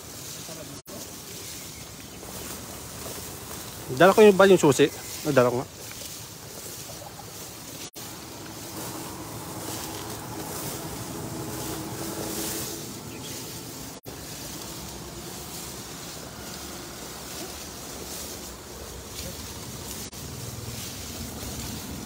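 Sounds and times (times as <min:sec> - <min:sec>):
tall grass swishing: 0:00.0 - 0:22.0.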